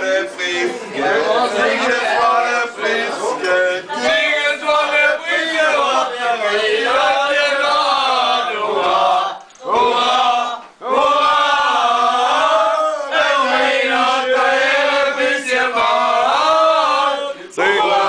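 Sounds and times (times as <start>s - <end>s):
men chanting together: 0.0s - 18.0s.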